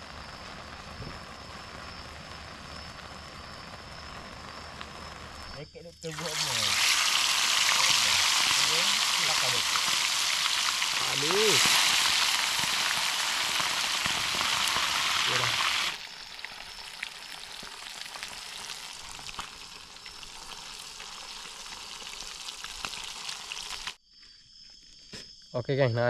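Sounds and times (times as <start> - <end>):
fish sizzling in oil: 0.0 - 24.0
oil spitting crackles: 0.0 - 24.0.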